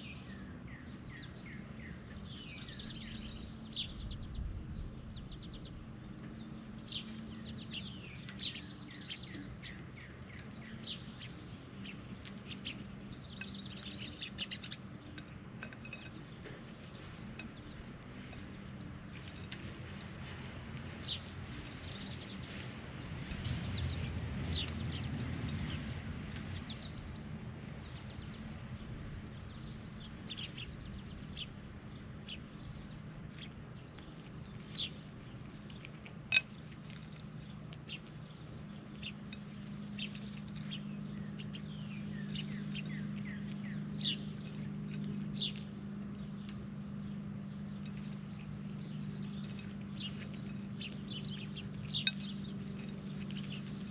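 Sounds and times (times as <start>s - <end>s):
birds chirping: 0.0s - 53.9s
steady low hum: 0.0s - 53.9s.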